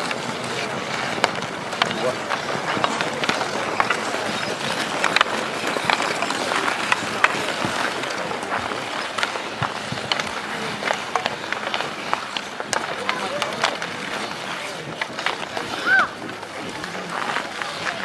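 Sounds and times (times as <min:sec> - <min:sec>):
hockey sticks clacking: 0:00.0 - 0:18.0
ice skates scraping ice: 0:00.0 - 0:18.0.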